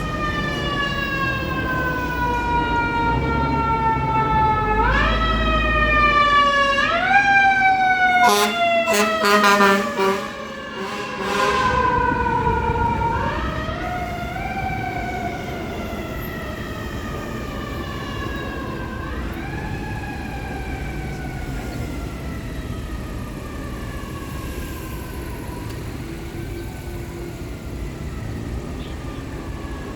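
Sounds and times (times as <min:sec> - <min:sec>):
engine and road rumble: 0:00.0 - 0:29.9
fire engine siren wailing: 0:00.0 - 0:29.9.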